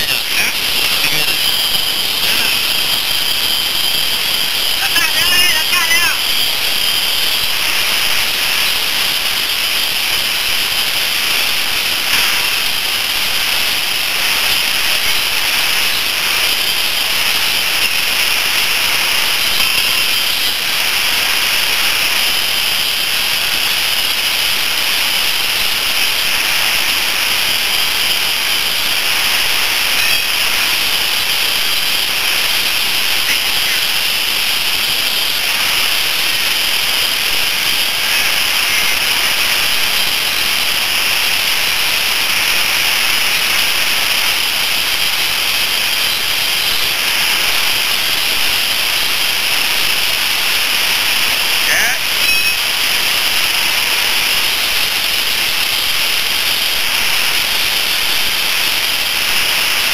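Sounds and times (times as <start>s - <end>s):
loud steady hiss: 0.0s - 59.9s.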